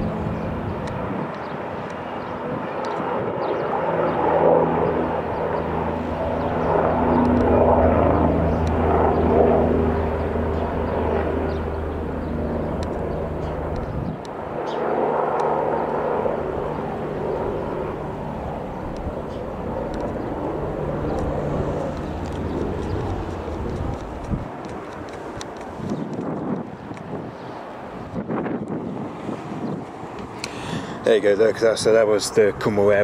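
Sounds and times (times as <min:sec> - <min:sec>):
helicopter flying overhead: 0:00.0 - 0:33.0.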